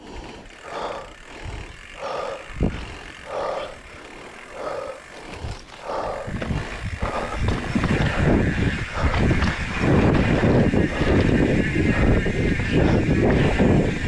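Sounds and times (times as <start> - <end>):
bike rattling over rough ground: 0.0 - 14.0
wind rumbling on microphone: 0.0 - 14.0.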